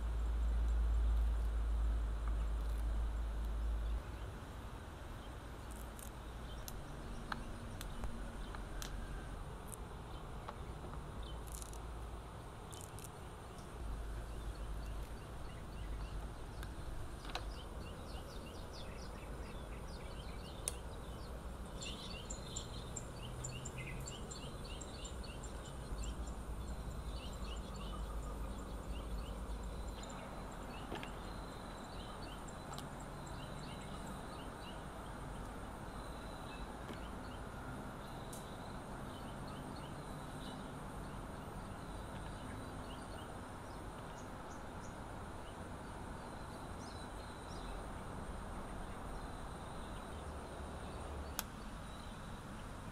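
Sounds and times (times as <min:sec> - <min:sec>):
small birds chirping: 0:00.0 - 0:52.9
steady rushing hiss: 0:00.0 - 0:52.9.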